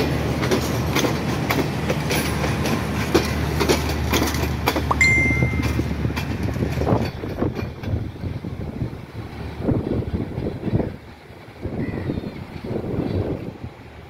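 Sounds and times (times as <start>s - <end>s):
train wheels clicking over rail joints: 0.0s - 11.6s
low train hum: 0.0s - 14.0s.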